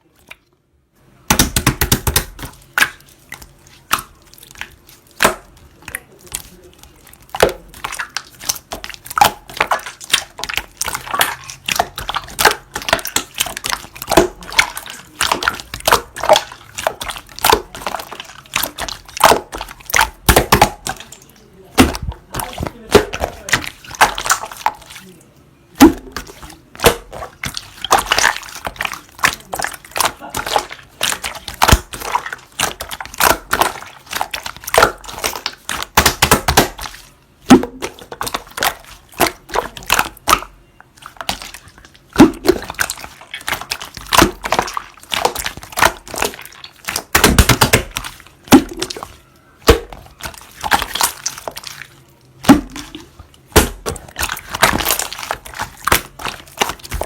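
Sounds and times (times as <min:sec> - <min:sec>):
slime squelching and popping: 0:01.1 - 0:57.0.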